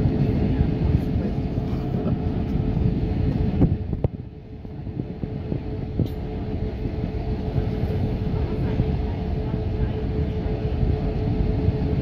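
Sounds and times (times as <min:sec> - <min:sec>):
jet engines droning: 0:00.0 - 0:12.0
wheels rumbling on runway: 0:00.0 - 0:12.0.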